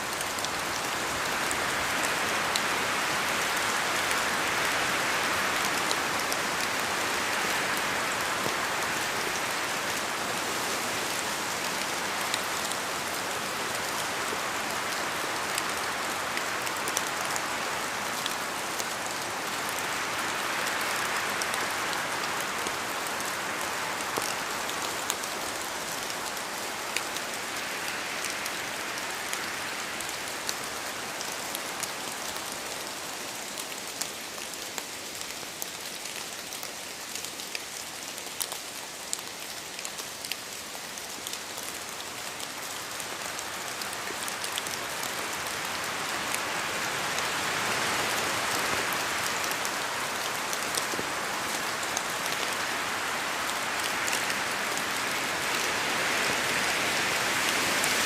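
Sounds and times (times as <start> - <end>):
rain in a forest: 0.0 - 58.0.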